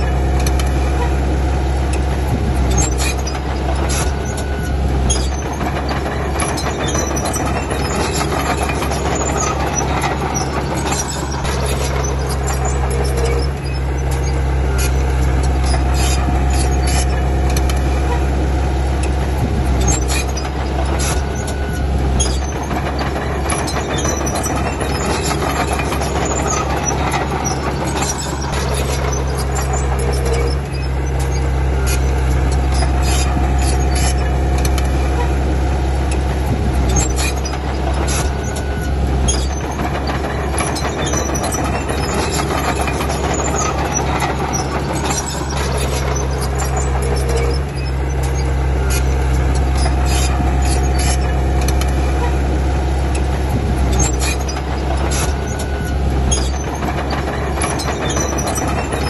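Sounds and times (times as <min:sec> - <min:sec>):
bulldozer diesel engine under load: 0:00.0 - 0:59.0
steel tracks clanking: 0:00.0 - 0:59.0
track squeals: 0:00.0 - 0:59.0.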